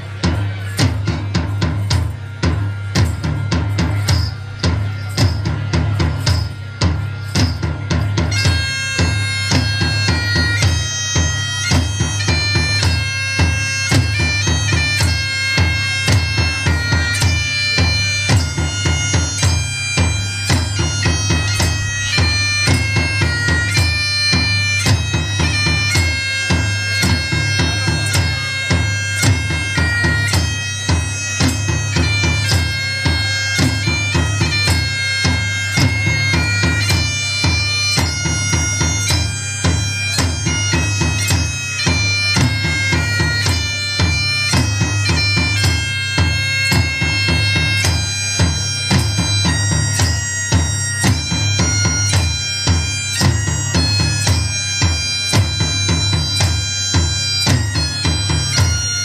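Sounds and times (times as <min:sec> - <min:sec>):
bagpipe melody: 0:00.0 - 0:59.0
drum steady beat: 0:00.0 - 0:59.0.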